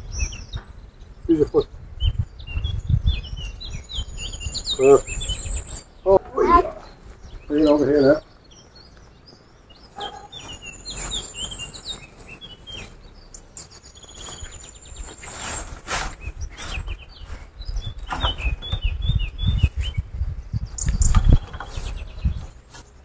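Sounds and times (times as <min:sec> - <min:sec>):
birds chirping and singing: 0:00.0 - 0:23.0.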